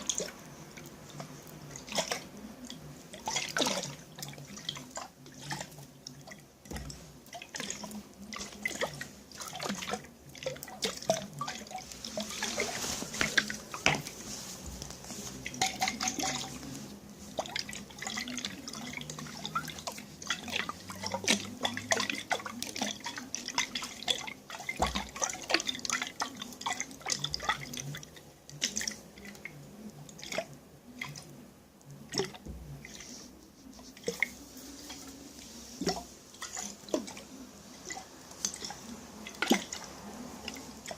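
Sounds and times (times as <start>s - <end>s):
water dripping and splashing: 0.0s - 40.9s.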